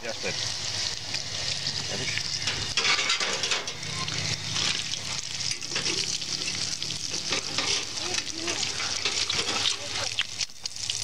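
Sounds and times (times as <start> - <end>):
bacon sizzling and crackling: 0.0 - 11.0.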